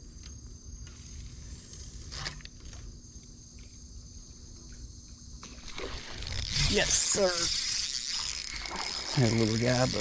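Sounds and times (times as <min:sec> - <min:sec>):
insect chorus trilling: 0:00.0 - 0:10.0.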